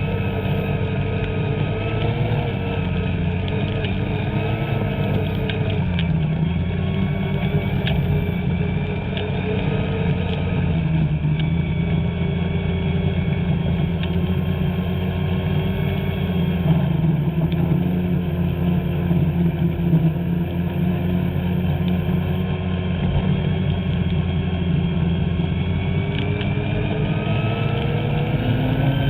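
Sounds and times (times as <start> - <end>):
two-stroke snowmobile engine: 0.0 - 29.0.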